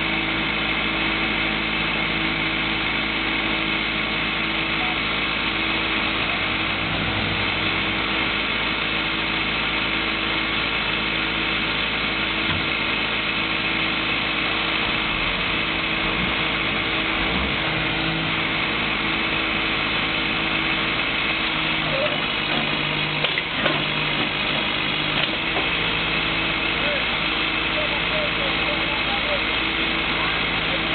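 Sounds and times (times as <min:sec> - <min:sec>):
digging machine diesel engine: 0:00.0 - 0:30.9.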